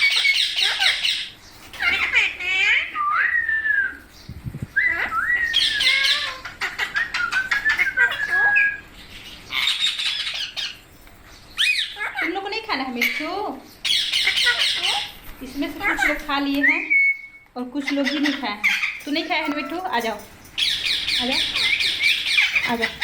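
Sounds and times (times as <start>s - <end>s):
parakeets squawking and chattering: 0.0s - 23.0s.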